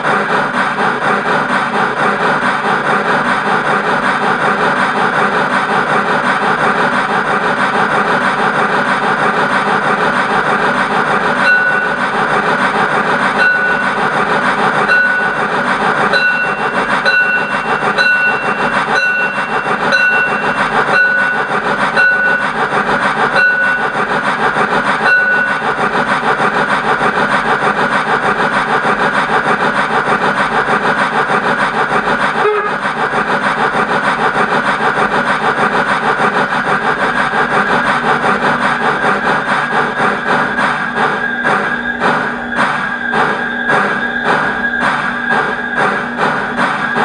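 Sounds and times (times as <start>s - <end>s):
steam engine sound from small speaker: 0.0s - 47.0s.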